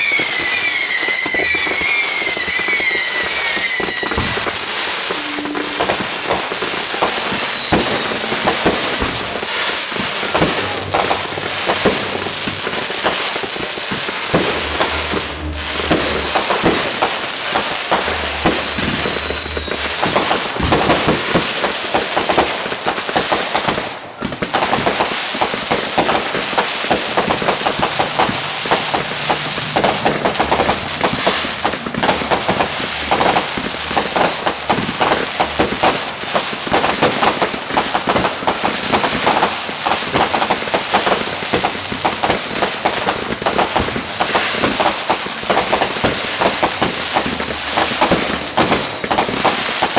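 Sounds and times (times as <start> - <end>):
fireworks crackling pops: 0.0 - 49.9
high firework whistle: 0.0 - 49.9.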